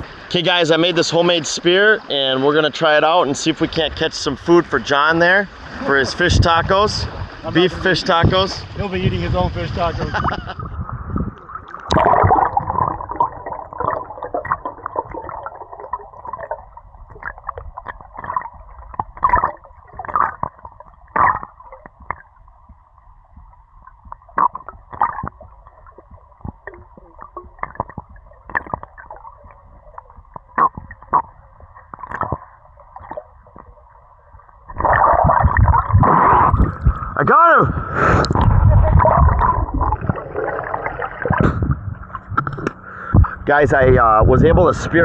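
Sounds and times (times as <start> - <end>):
muffled water sloshing: 0.0 - 45.0.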